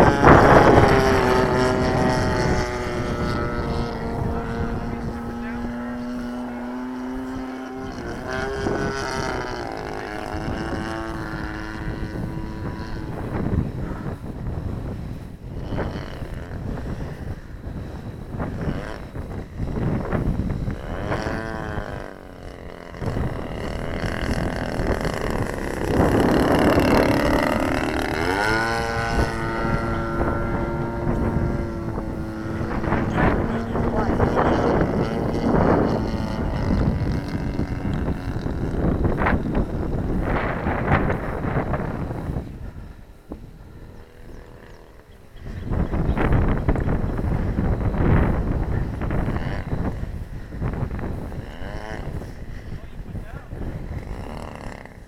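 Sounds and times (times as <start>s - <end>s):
model airplane engine: 0.0s - 55.0s
wind buffeting microphone: 0.0s - 55.0s.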